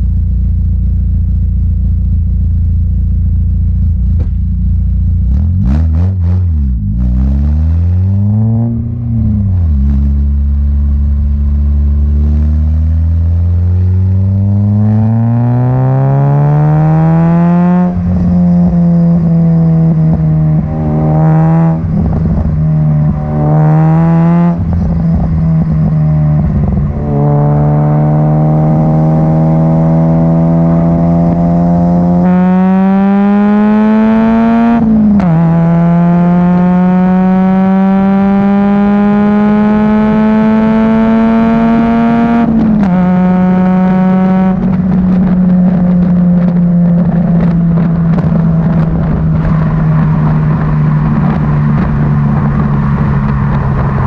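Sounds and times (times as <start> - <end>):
car engine revving through exhaust: 0.0 - 54.0.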